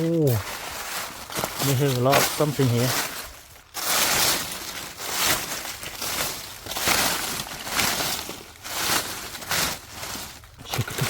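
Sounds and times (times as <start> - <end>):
dry leaves crunching underfoot: 0.0 - 11.0.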